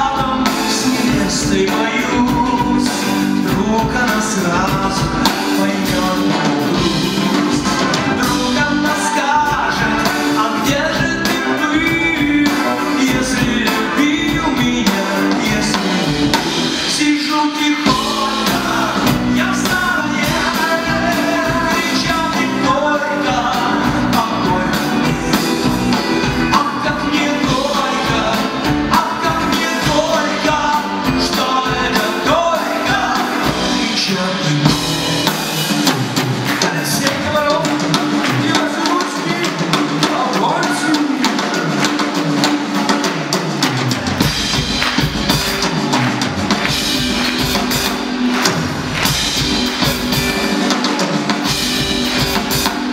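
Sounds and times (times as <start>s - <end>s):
person singing lead vocal: 0.0s - 45.9s
live pop-rock band: 0.0s - 52.9s.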